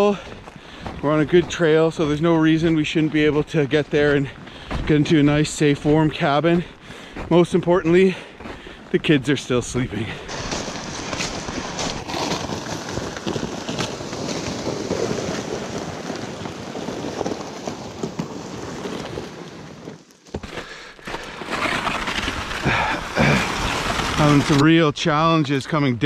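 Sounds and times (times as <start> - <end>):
plastic sleds scraping over icy snow: 0.0 - 25.9.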